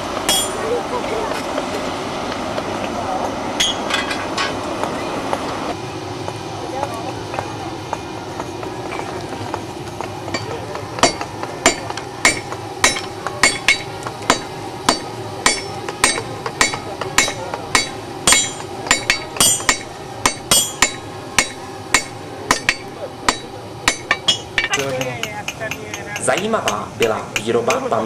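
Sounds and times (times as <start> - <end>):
hammer striking iron on anvil: 0.2 - 0.7, 3.2 - 4.9, 7.3 - 28.0.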